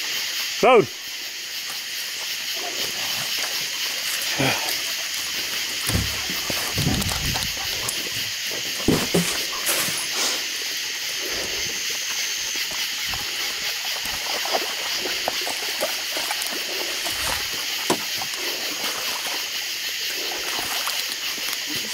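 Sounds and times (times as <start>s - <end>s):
river water sloshing and trickling: 0.2s - 21.9s.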